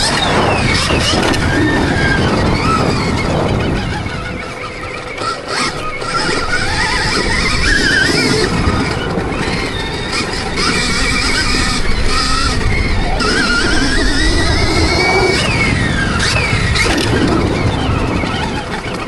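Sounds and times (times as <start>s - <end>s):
electric motorbike motor whining: 0.0s - 19.0s
tyres on dirt: 0.0s - 19.0s
wind rush: 0.0s - 19.0s.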